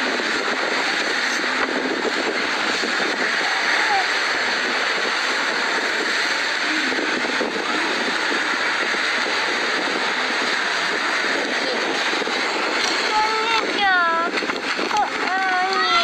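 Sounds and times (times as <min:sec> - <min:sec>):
waves breaking on sandy beach: 0:00.0 - 0:16.0.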